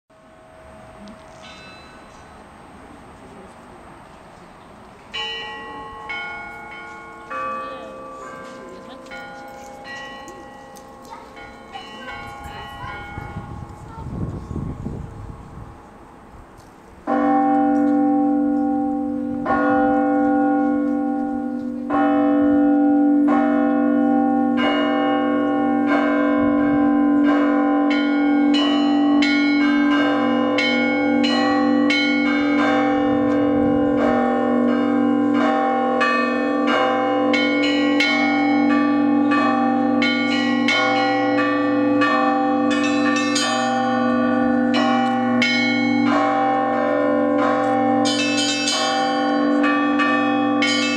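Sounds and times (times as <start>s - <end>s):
church bells ringing: 0.1s - 50.9s.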